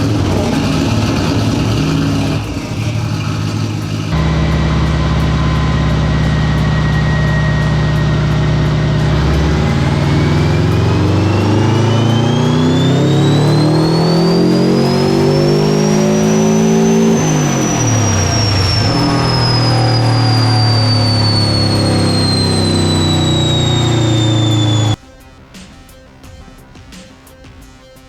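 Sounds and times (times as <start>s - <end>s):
car engine on dyno: 0.0s - 25.0s
high turbo whine: 0.0s - 28.0s.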